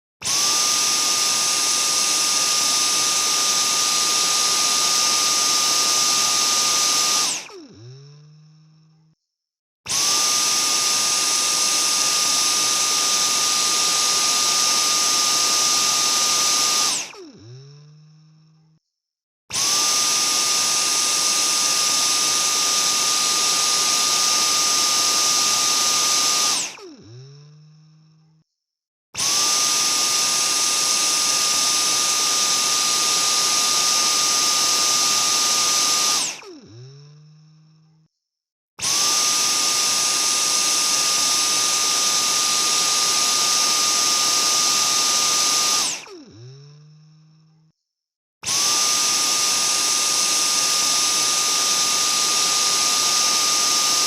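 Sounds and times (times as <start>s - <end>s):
vacuum cleaner running: 0.2s - 9.1s, 9.9s - 18.7s, 19.5s - 28.3s, 29.2s - 37.9s, 38.8s - 47.4s, 48.4s - 54.0s.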